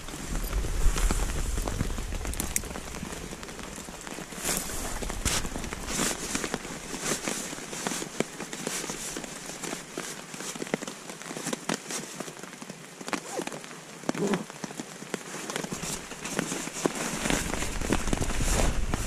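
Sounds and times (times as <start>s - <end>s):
stuff sack rustling: 0.0s - 12.4s, 15.2s - 19.0s
rain pattering on a tarp: 0.0s - 19.0s.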